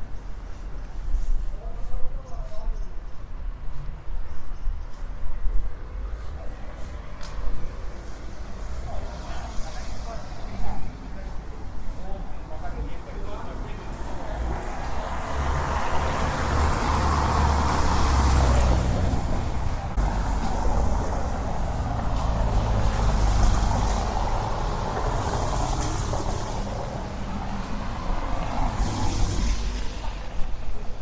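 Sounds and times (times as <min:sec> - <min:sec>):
motor vehicles passing by: 0:06.1 - 0:31.0.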